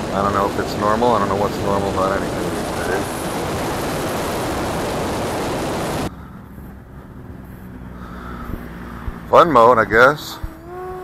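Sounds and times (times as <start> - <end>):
distant electric motor buzzing: 0.0 - 11.0
rushing wind and propeller noise: 0.0 - 11.0.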